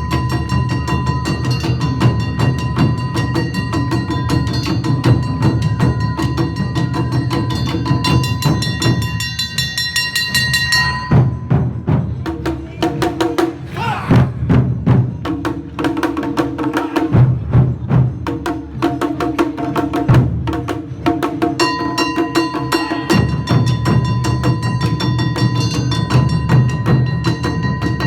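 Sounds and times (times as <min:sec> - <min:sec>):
drums and percussion beat: 0:00.0 - 0:28.0.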